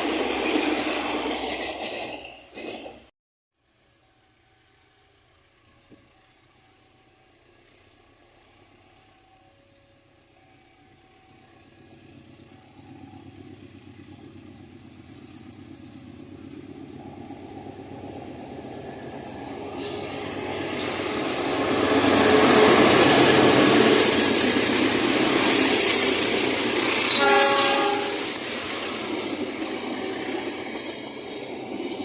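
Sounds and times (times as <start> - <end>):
diesel train passing: 0.0 - 32.0.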